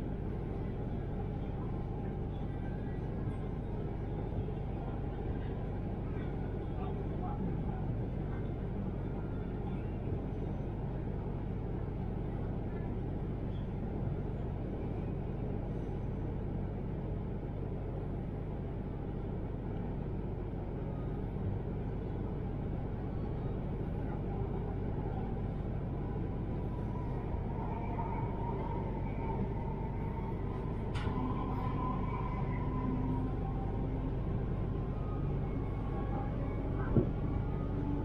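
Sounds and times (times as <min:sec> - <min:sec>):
train interior rumble: 0:00.0 - 0:38.0.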